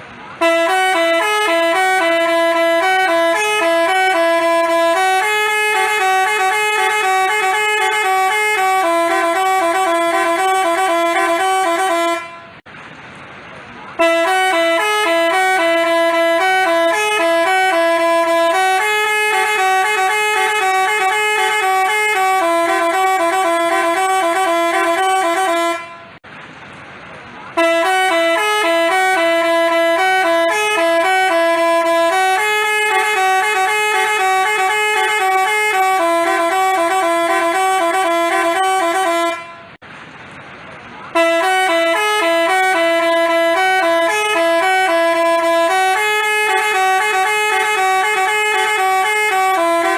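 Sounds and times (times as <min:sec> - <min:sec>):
bus horn playing multi-note tune: 0:00.0 - 0:12.7, 0:13.9 - 0:26.2, 0:27.5 - 0:39.8, 0:41.1 - 0:49.9.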